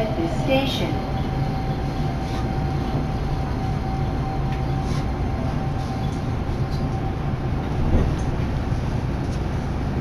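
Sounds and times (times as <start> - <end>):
thin steady whine: 0.0 - 10.0
train interior rumble: 0.0 - 10.0.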